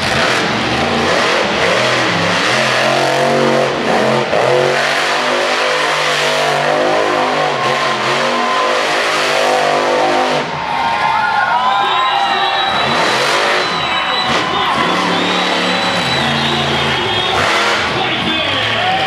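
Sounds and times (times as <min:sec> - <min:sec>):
truck engine revving hard: 0:00.0 - 0:11.1, 0:11.9 - 0:19.0.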